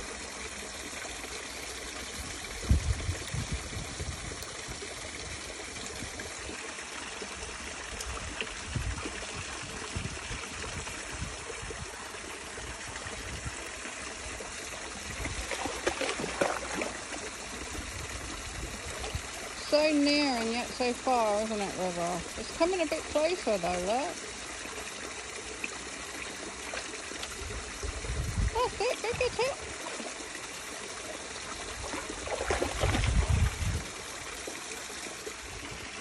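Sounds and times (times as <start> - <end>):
stream trickling: 0.0 - 36.0
water splashing: 0.0 - 36.0.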